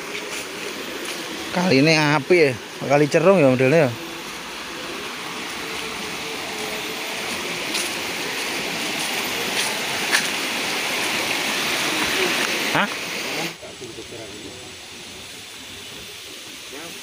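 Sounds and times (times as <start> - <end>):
stream rushing over rapids: 0.0 - 17.0.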